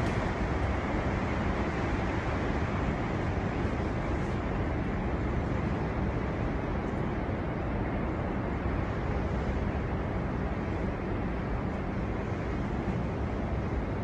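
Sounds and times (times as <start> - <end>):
strong storm wind blowing: 0.0 - 14.0.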